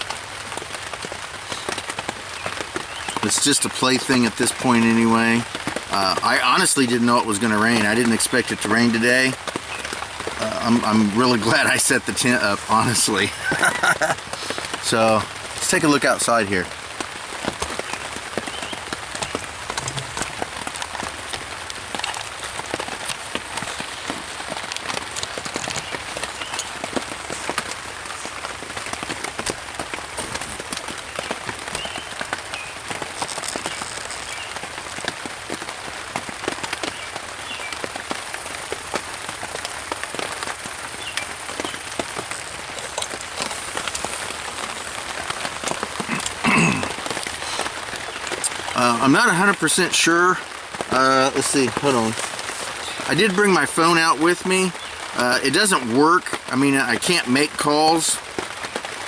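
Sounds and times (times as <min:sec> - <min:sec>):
rain on a tarp: 0:00.0 - 0:59.0.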